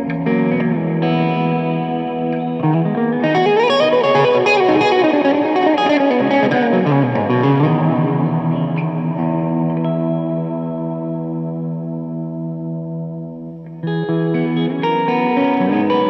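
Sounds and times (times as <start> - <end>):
electric guitar through an amp: 0.0 - 16.0.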